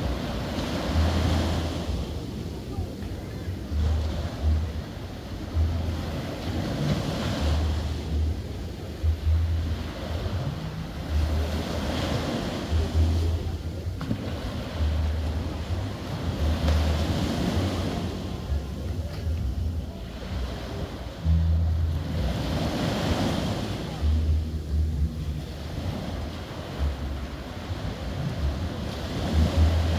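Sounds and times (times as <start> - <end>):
waves washing onto beach: 0.0 - 29.9
wind buffeting microphone: 0.0 - 29.9.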